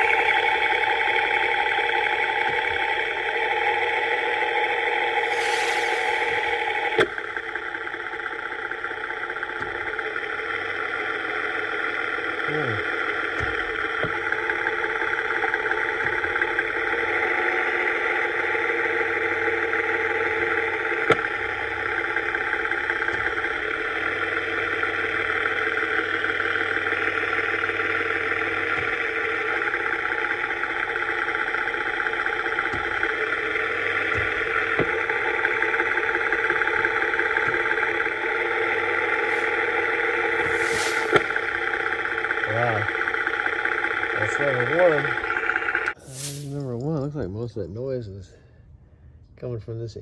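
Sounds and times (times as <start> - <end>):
car engine running: 0.0 - 46.6.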